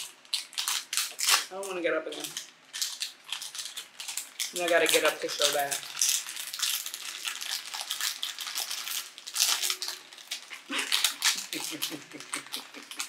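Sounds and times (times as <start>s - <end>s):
plastic wrapper tearing: 0.0s - 13.0s.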